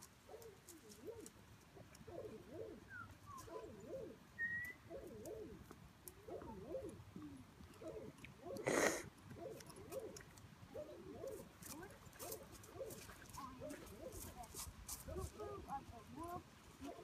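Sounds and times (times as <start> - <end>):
doves cooing: 0.0 - 14.5.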